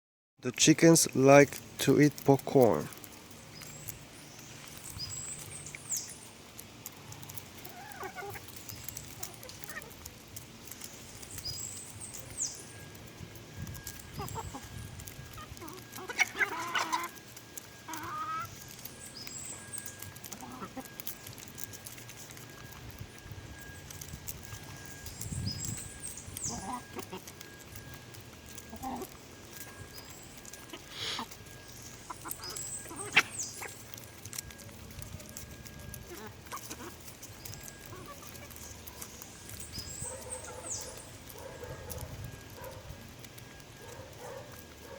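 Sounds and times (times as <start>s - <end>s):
chickens clucking: 0.8s - 44.9s.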